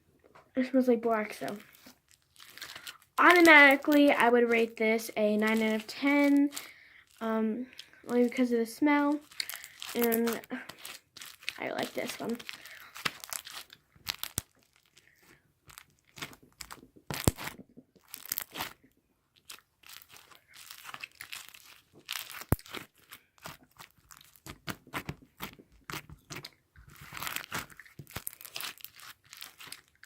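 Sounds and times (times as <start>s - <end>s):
crinkling and crunching handling: 0.1s - 30.0s.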